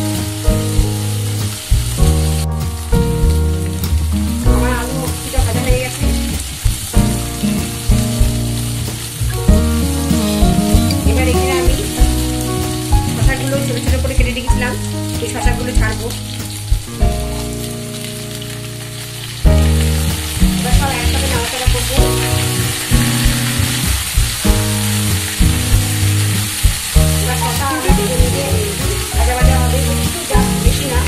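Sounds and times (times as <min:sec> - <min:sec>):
background music with held chords: 0:00.0 - 0:31.0
potatoes sizzling in oil: 0:00.0 - 0:31.0.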